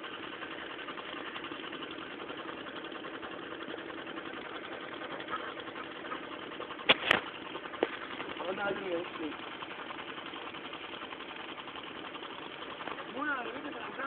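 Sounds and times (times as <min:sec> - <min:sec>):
small motor rattling: 0:00.0 - 0:14.0.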